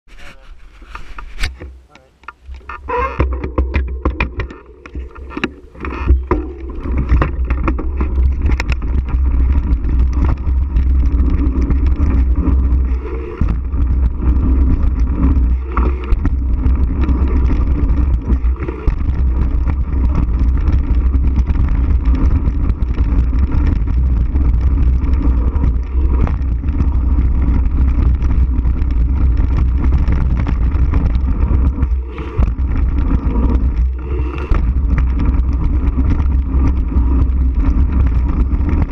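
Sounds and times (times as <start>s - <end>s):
tyre noise: 0.1s - 38.9s
bike rattling over bumps: 2.4s - 38.9s
wind buffeting microphone: 2.4s - 38.9s.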